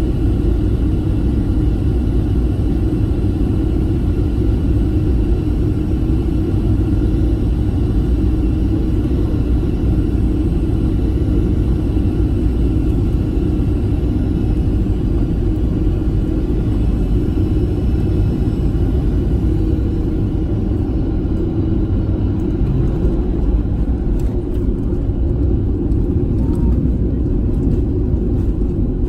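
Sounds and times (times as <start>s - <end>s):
airliner engine rumble and whine: 0.0s - 29.0s.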